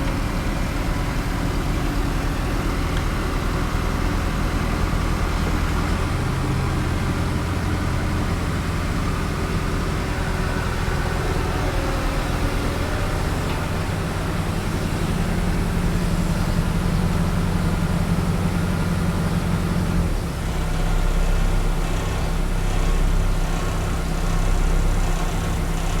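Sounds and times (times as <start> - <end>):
heavy engine droning: 0.0 - 26.0.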